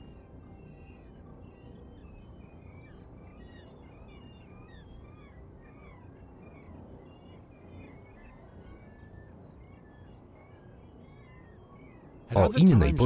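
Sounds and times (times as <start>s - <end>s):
birds yelping and chirping: 0.0s - 13.0s.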